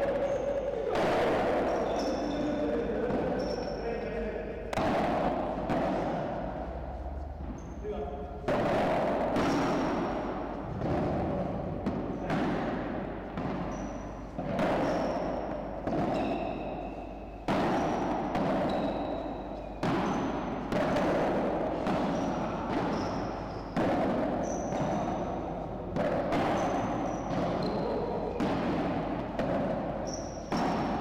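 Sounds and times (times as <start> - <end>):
paddle rackets hitting ball: 0.0 - 3.8, 4.7 - 7.8, 8.4 - 31.0
ball bouncing off walls: 4.7 - 31.0.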